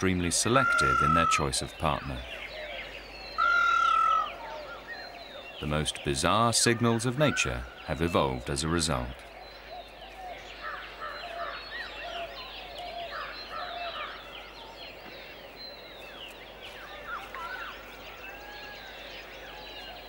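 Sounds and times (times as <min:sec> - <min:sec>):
birds chirping and whistling: 0:00.0 - 0:20.0
lower repeated bird calls: 0:00.0 - 0:20.0.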